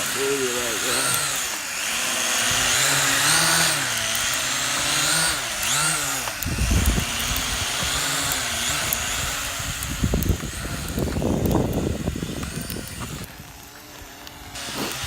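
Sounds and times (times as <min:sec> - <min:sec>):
drone propellers whining: 0:00.0 - 0:15.0
wind buffeting microphone: 0:00.0 - 0:15.0.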